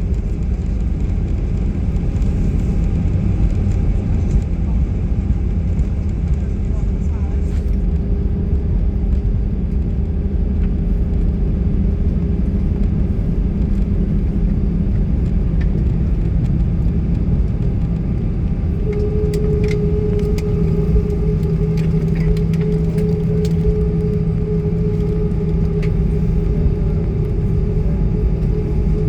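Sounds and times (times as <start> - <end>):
aircraft engines low rumble: 0.0 - 29.0
steady hum: 0.0 - 29.0.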